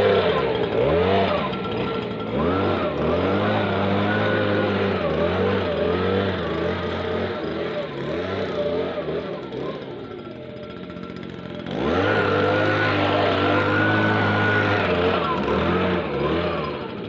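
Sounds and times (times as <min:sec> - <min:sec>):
leaf blower engine running: 0:00.0 - 0:17.0.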